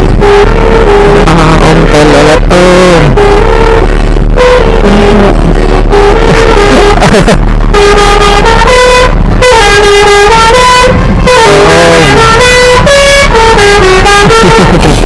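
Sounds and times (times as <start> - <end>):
multi-tone air horn tune: 0.2 - 7.0, 7.7 - 15.0.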